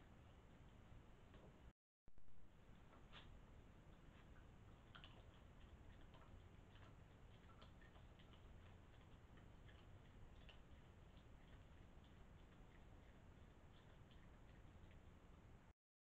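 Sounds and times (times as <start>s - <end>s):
animals chewing food: 2.4s - 15.7s.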